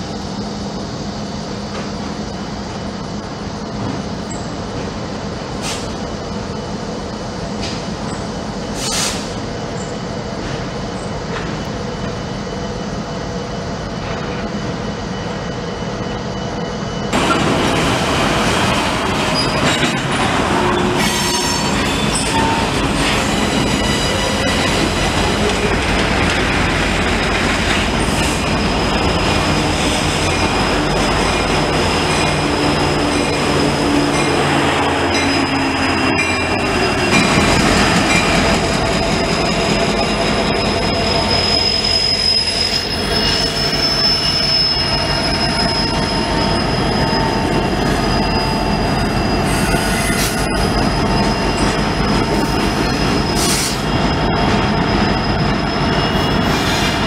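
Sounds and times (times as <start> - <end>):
diesel locomotive engine drone: 0.0 - 57.0
rumble of rail cars: 0.0 - 57.0
train wheels squealing: 3.1 - 4.8, 5.6 - 17.4, 19.2 - 57.0.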